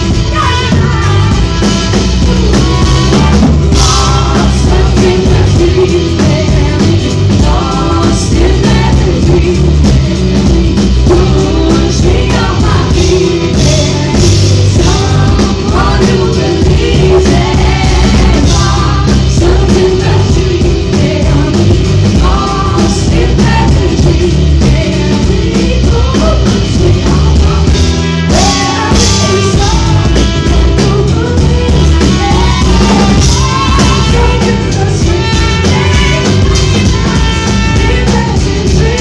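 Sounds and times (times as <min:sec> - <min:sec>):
live rock band with singing: 0:00.0 - 0:39.0.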